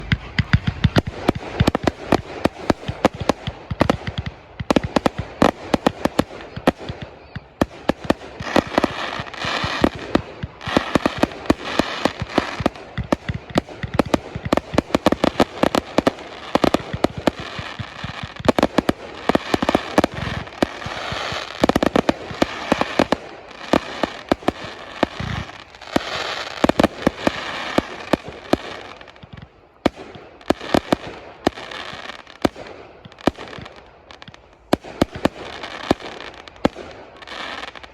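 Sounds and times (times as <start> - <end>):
fireworks bangs: 0.0 - 37.9
fireworks crackling: 0.0 - 37.9.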